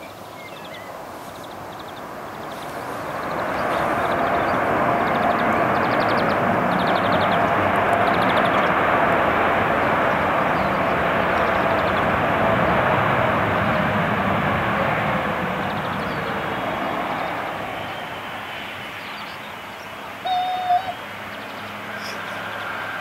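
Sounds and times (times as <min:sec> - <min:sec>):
jet engines roaring: 0:00.9 - 0:23.0.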